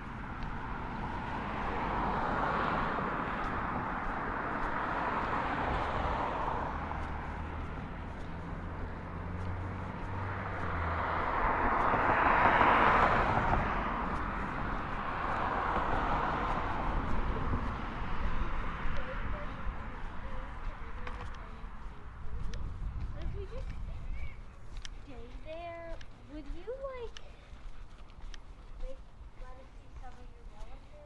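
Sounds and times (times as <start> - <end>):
low engine hum: 0.0 - 31.0
road traffic passing: 0.0 - 31.0.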